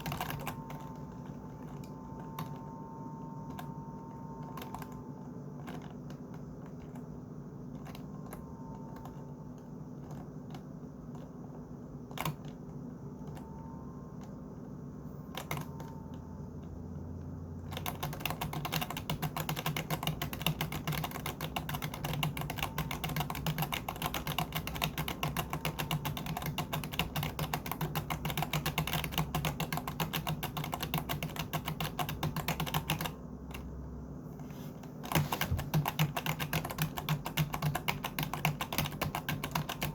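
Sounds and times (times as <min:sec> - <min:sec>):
keyboard typing: 0:00.0 - 0:16.8, 0:17.6 - 0:39.9
steady low hum: 0:00.0 - 0:39.9.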